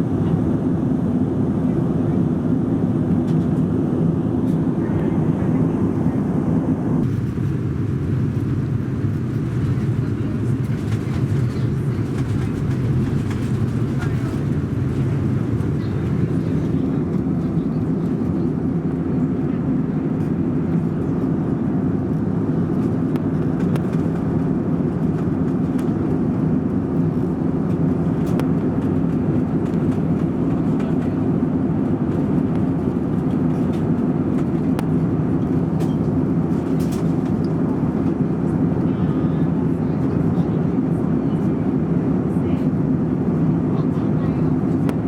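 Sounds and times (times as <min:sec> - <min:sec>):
airplane cabin engine hum: 0:00.0 - 0:45.0.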